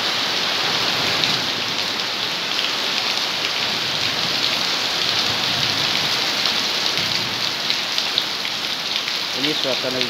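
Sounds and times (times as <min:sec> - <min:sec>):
rain on a metal grille: 0:00.0 - 0:10.0
rain on concrete paving: 0:00.0 - 0:10.0
rain on leaves: 0:00.0 - 0:10.0.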